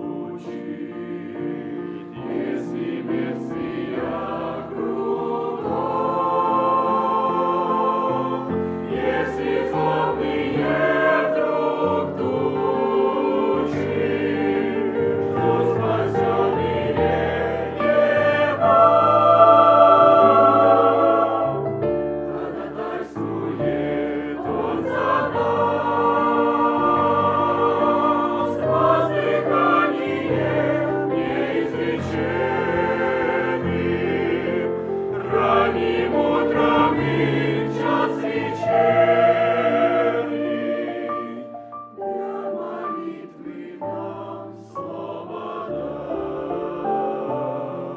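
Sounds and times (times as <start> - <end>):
choir singing: 0.0 - 47.9.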